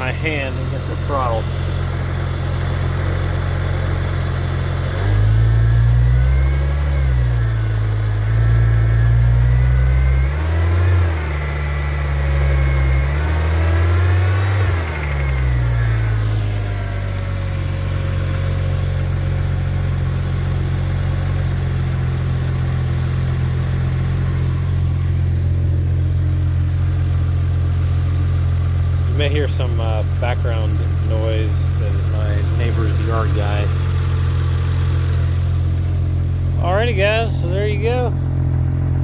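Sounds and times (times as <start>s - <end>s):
car engine revving and idling: 0.0s - 39.0s.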